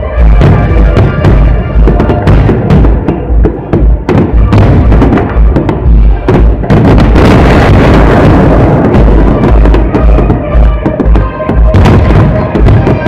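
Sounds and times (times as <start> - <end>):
fireworks booms and bangs: 0.0 - 13.0
fireworks crackling: 0.0 - 13.0.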